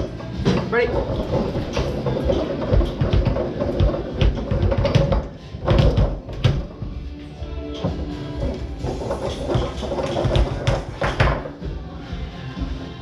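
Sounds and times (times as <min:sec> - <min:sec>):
foosball clacks and thuds: 0:00.0 - 0:06.9, 0:07.8 - 0:11.6.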